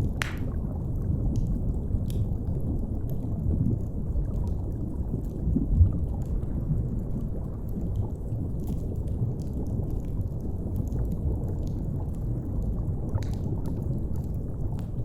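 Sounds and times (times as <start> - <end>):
deep underwater sea rumble: 0.0 - 15.0
wood fire crackles: 0.0 - 15.0.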